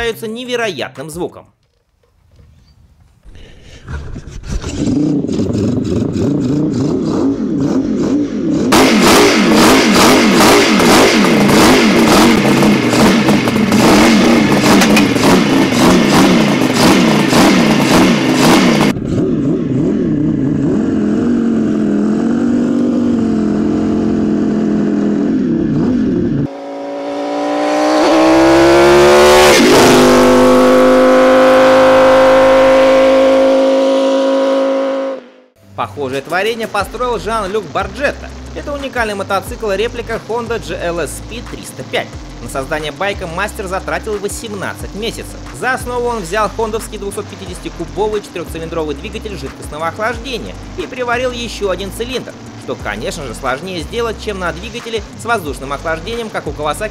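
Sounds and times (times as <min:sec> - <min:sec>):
two-stroke engine revving: 0:04.6 - 0:35.5, 0:36.4 - 0:56.9.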